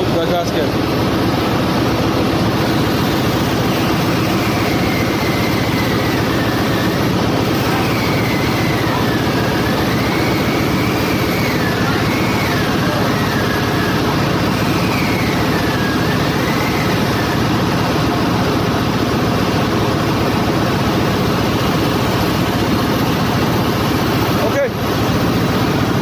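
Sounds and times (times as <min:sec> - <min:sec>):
engine room machinery din: 0:00.0 - 0:26.0.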